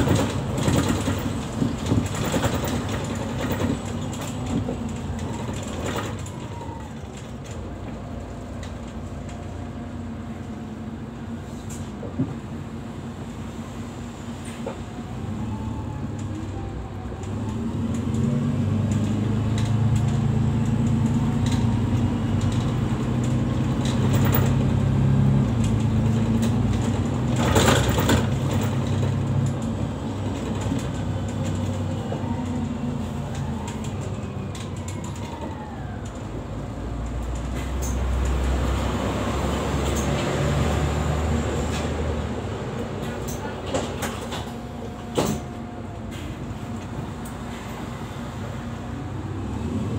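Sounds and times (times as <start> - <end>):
bus engine drone: 0.0 - 49.9
road noise: 0.0 - 49.9.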